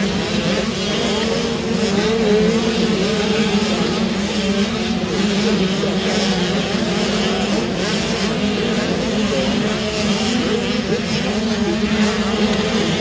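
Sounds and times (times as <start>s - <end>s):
motocross bike engines racing: 0.0s - 13.0s.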